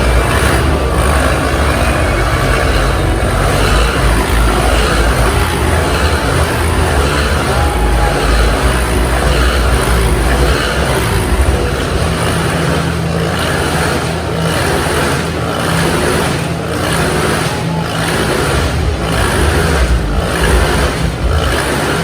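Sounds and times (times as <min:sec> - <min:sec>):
motorcycle engines running hard: 0:00.0 - 0:22.0.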